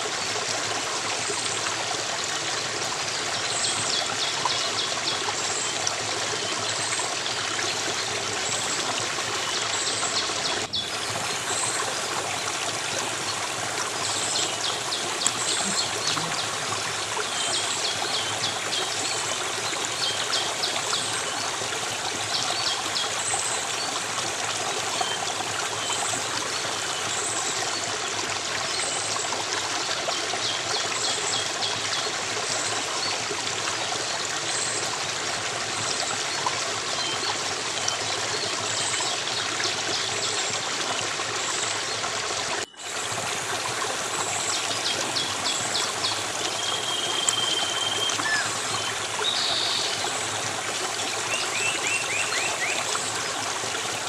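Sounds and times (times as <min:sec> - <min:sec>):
stream of water flowing: 0:00.0 - 0:54.0.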